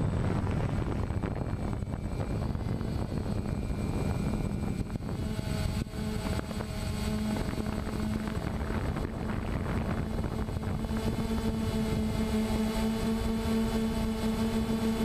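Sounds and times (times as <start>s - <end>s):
drone propellers humming: 0.0s - 15.0s.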